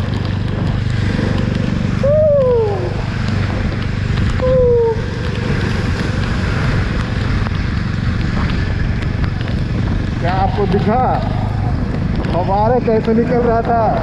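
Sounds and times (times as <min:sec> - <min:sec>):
heavy rain: 0:00.0 - 0:14.0
motorcycle engine running: 0:00.0 - 0:14.0
water hissing on wet road: 0:00.0 - 0:14.0
wind buffeting: 0:00.0 - 0:14.0.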